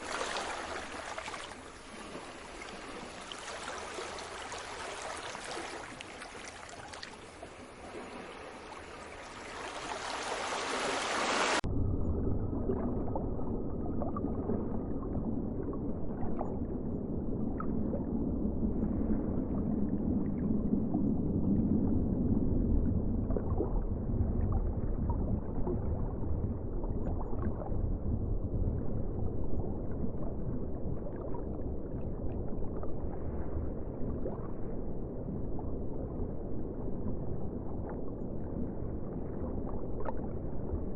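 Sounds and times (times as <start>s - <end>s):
muffled low rumbling water: 0.0s - 40.9s.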